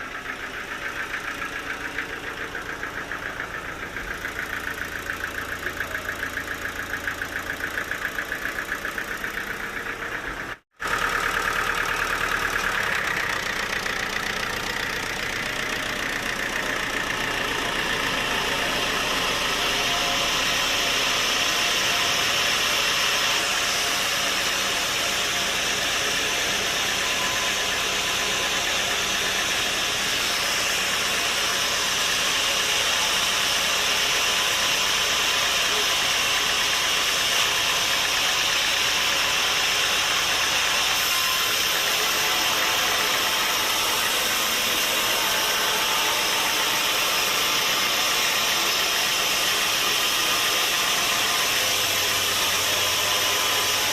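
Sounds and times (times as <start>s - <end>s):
sawmill machinery droning: 0.0s - 53.9s.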